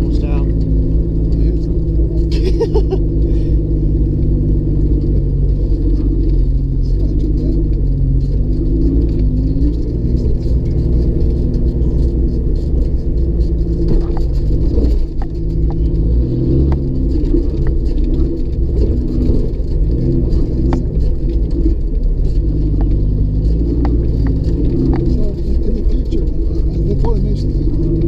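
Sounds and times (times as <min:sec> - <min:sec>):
car engine rumble from inside: 0:00.0 - 0:28.0
faint ticks and rattles: 0:04.0 - 0:28.0.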